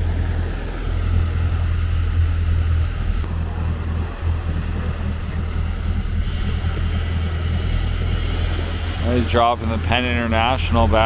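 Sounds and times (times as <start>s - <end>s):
boat engine droning: 0.0s - 11.0s
wake churning: 0.0s - 11.0s
wind on microphone: 0.0s - 11.0s.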